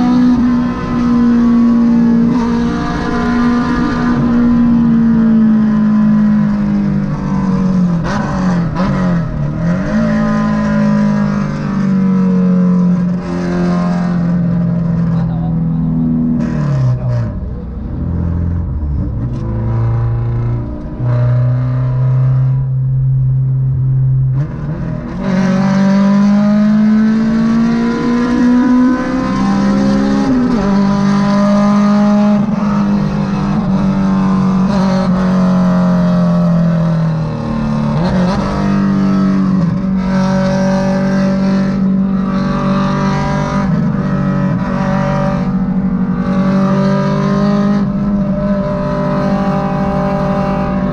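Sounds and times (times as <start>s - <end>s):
car engine running hard: 0.0s - 50.9s.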